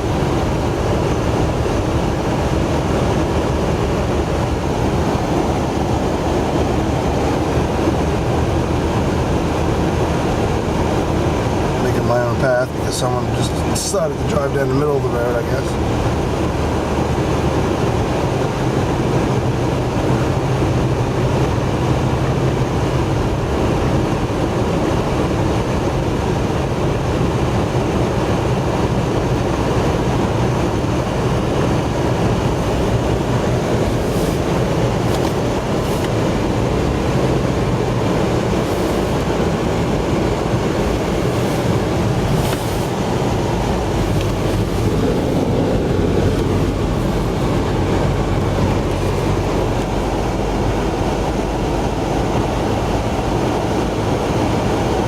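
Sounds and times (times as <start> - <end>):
car driving through snow: 0.0 - 55.0.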